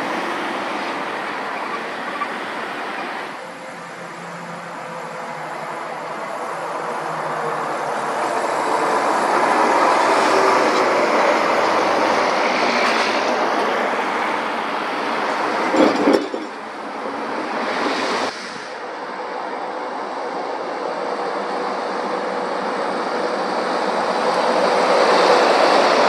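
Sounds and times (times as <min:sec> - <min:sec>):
heavy lorries passing: 0:00.0 - 0:26.0.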